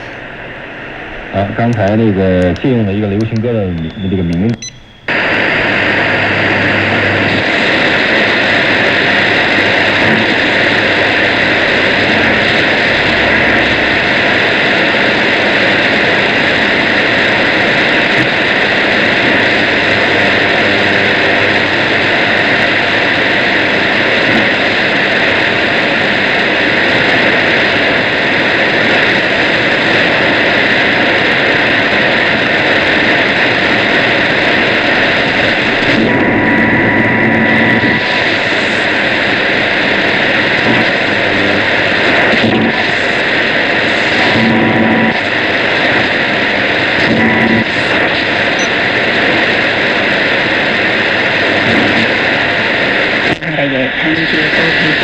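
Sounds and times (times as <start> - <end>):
shortwave radio hiss: 0.0 - 55.0.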